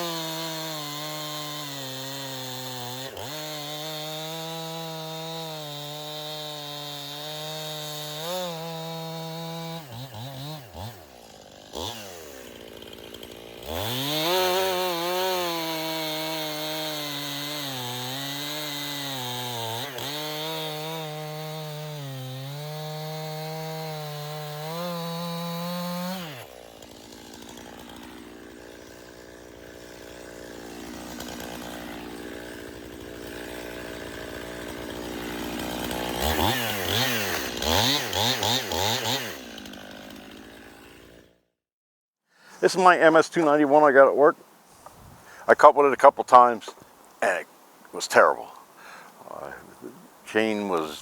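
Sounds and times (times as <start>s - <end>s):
chainsaw cutting wood: 0.0s - 41.6s, 42.4s - 51.0s.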